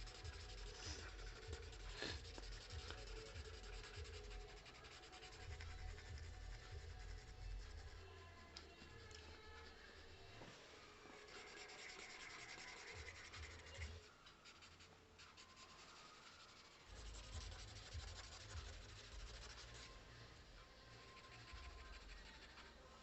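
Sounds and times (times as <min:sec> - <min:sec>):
pencil scratching on paper: 0:00.0 - 0:08.1, 0:11.1 - 0:20.0, 0:20.9 - 0:23.0.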